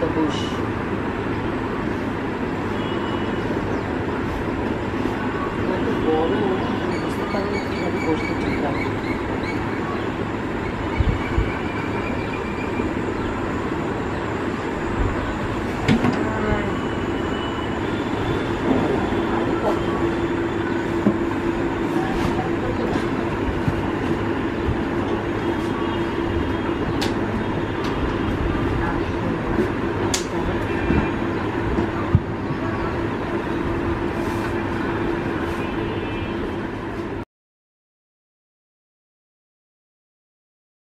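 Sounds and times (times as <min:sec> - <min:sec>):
mechanical rumble and low hum: 0:00.0 - 0:37.2.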